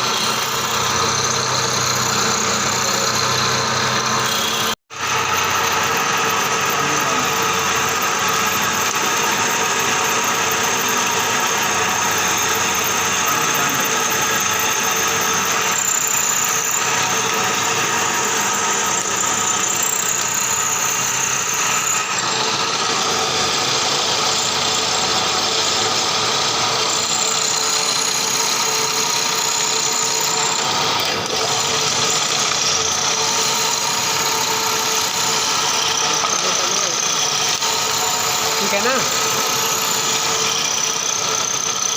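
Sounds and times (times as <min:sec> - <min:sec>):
drilling machine hum: 0:00.0 - 0:41.9.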